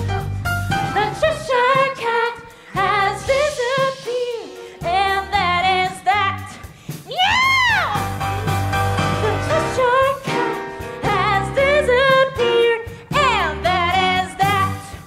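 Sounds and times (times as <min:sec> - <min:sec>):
show tune singers with band: 0:00.9 - 0:08.1, 0:09.1 - 0:15.0.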